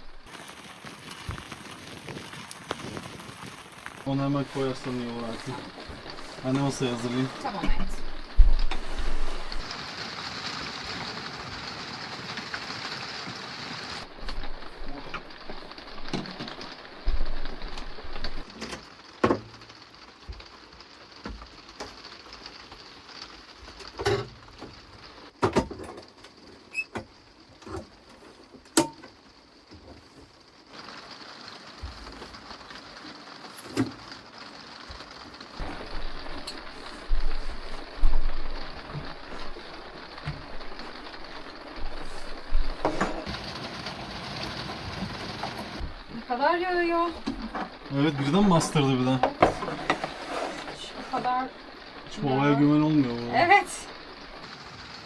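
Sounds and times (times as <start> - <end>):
heavy rain on caravan roof: 0.0 - 55.0.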